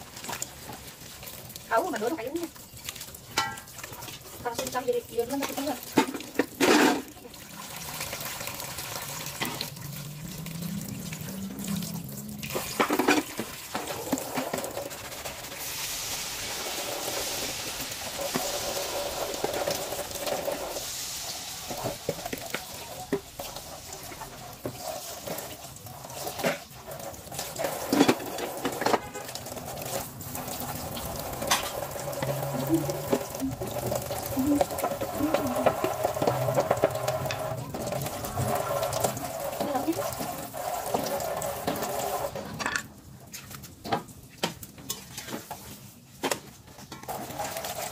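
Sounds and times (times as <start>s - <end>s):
tap water running into sink: 0.0s - 42.7s.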